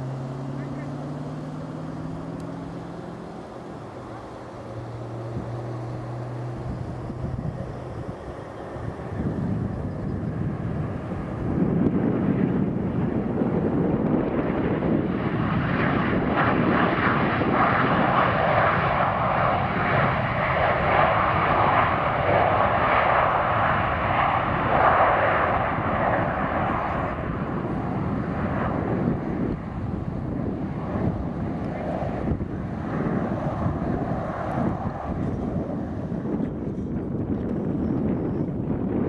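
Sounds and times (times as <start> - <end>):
jet airliner engine roar: 0.0 - 39.0.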